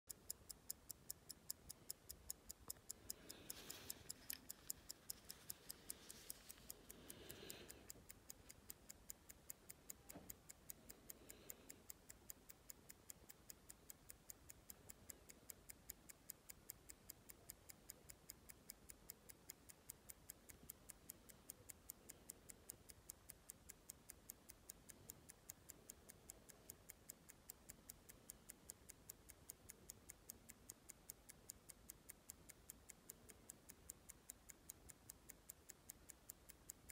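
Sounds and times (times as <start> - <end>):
pocket watch ticking: 0.1 - 36.9.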